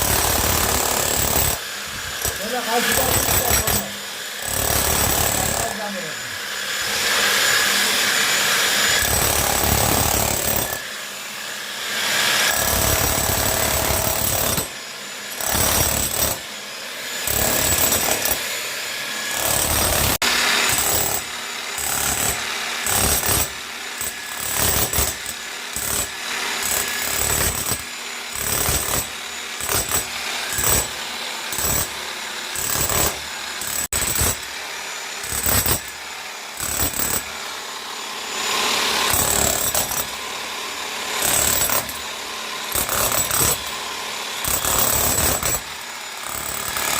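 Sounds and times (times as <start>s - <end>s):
power tool running: 0.0s - 46.9s.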